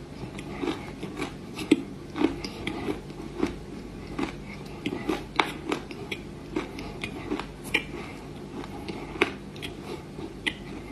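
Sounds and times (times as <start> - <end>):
crunchy clay being chewed: 0.1 - 10.9.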